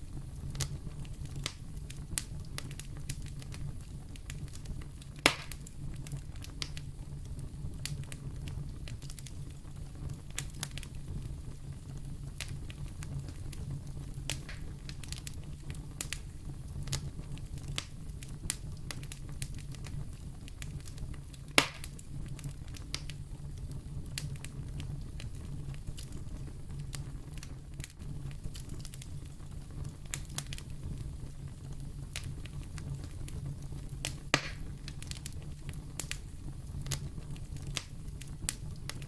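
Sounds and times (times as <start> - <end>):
fire crackling in fireplace: 0.0 - 39.0.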